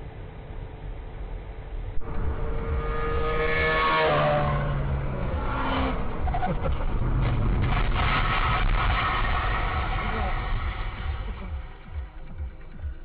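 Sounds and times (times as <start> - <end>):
steady pitched tone: 0.0 - 13.0
car engine revving: 1.8 - 13.0.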